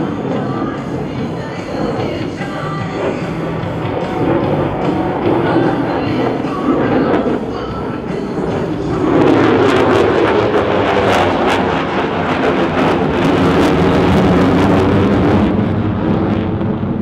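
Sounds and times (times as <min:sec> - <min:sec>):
jet engine roar with crackle: 0:00.0 - 0:17.0.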